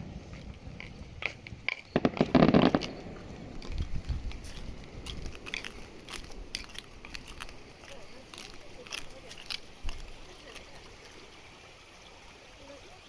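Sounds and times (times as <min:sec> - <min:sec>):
fireworks popping: 0:00.0 - 0:12.3
fireworks crackling: 0:00.0 - 0:13.0.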